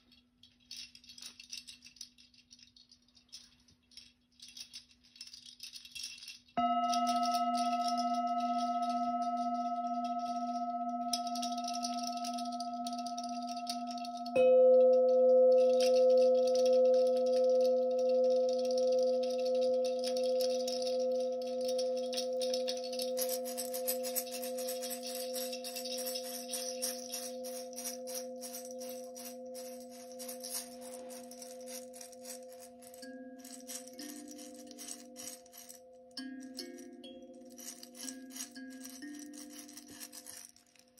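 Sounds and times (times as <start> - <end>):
shaker rattling: 0.0 - 14.4, 15.5 - 40.9
bell ringing: 6.6 - 40.6.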